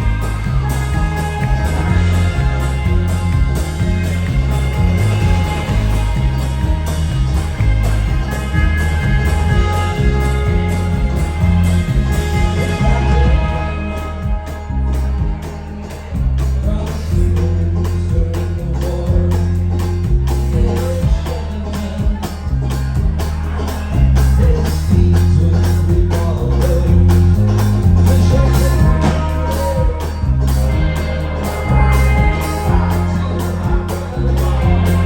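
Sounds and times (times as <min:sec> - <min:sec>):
live band playing: 0:00.0 - 0:35.0
stepping bass line: 0:00.0 - 0:35.0.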